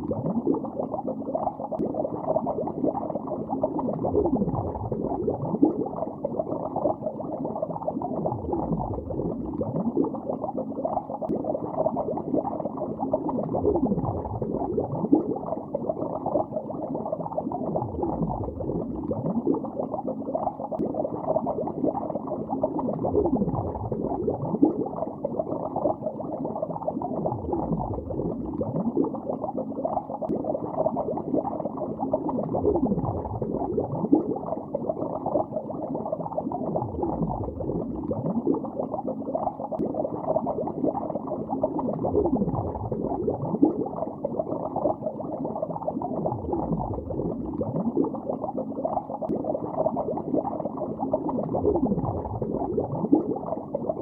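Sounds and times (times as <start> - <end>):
underwater bubbling and gurgling: 0.0 - 54.0.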